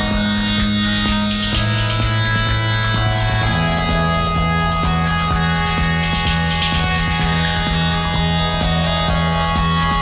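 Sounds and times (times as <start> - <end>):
held bass note: 0.0 - 9.8
electronic music with steady beat: 0.0 - 10.0.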